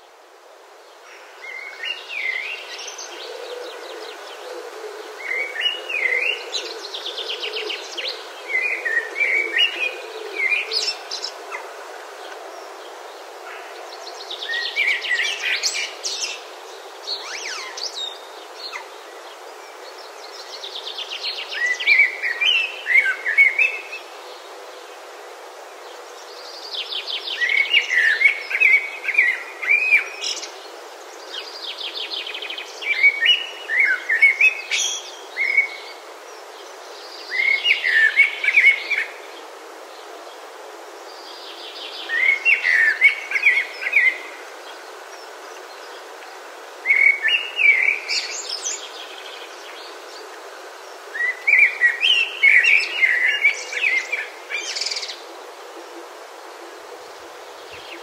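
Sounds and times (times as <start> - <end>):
songbird singing: 0.9 - 24.8, 25.6 - 58.0.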